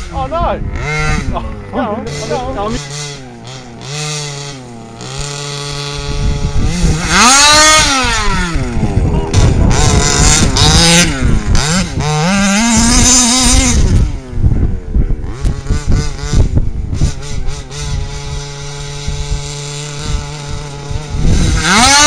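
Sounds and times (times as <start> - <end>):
small two-stroke engine revving: 0.0 - 22.0.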